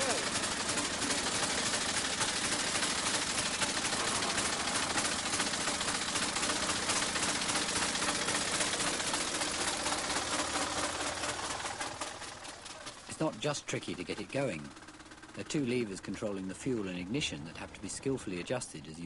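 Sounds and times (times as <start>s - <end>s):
old car engine running: 0.0s - 19.0s.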